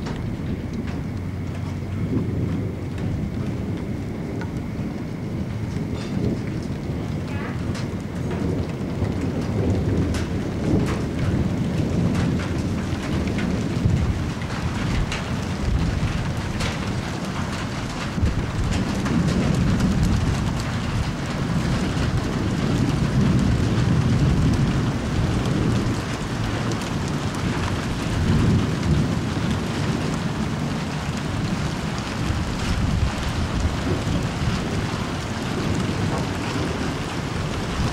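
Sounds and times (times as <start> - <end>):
heavy rain: 0.0 - 37.9
thunder rumbling: 0.0 - 37.9.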